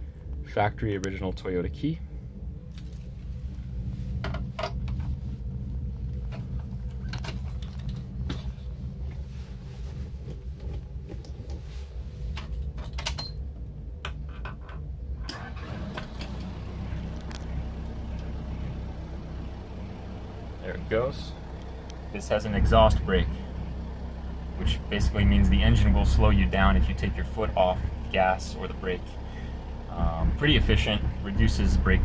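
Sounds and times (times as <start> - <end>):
diesel engine idling: 0.0 - 12.7, 15.0 - 32.0.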